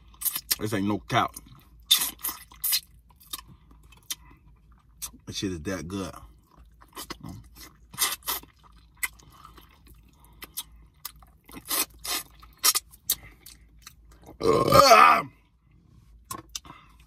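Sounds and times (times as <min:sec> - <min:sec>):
man chewing food: 0:00.0 - 0:00.6, 0:01.3 - 0:05.2, 0:06.2 - 0:17.0.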